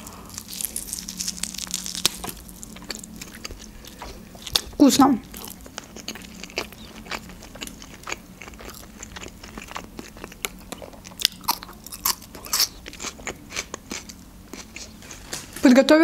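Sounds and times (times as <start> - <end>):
crunchy chewing: 0.0 - 15.6.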